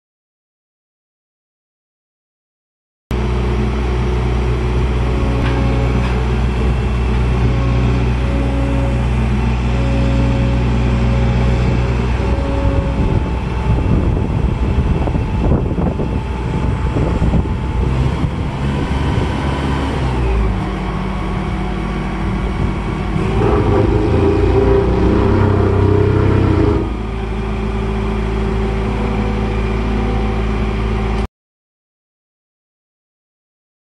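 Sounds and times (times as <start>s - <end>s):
road roller diesel engine: 3.1s - 31.3s.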